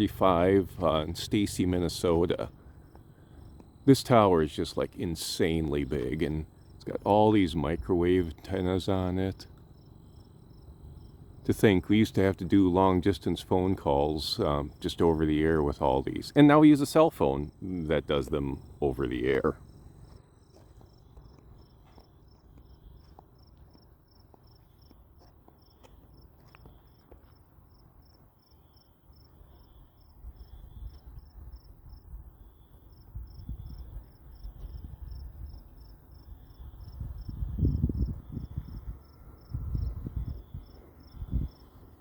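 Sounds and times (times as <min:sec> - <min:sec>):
insects chirping: 0:00.0 - 0:42.0.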